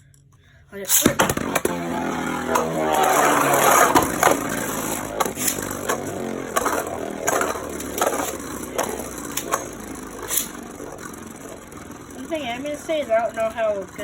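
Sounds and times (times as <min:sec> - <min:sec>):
spinning top whirring: 0:00.9 - 0:14.0.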